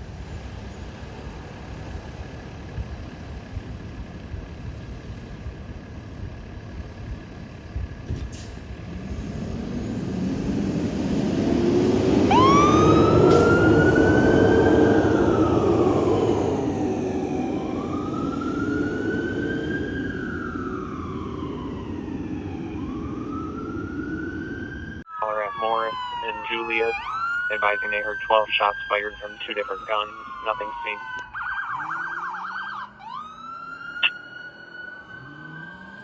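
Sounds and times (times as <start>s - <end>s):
fire engine engine: 0.0s - 36.0s
fire engine siren wailing: 1.2s - 36.0s.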